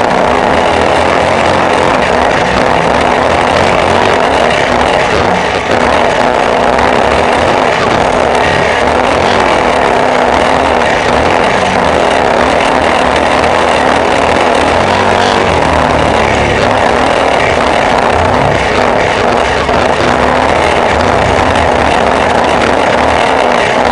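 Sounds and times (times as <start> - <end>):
loud rushing noise: 0.0 - 23.9
vehicle engine running: 0.0 - 23.9.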